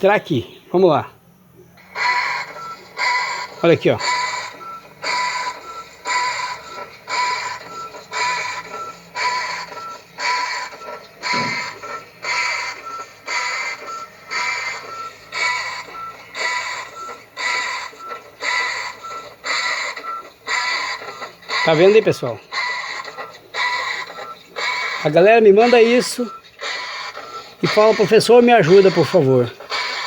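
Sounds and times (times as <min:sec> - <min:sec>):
washing machine agitating squeal: 0:02.0 - 0:30.0.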